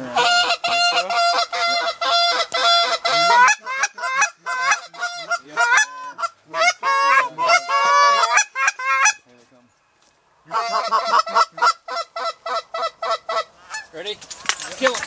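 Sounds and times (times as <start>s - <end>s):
geese honking: 0.0s - 9.2s, 10.5s - 13.9s.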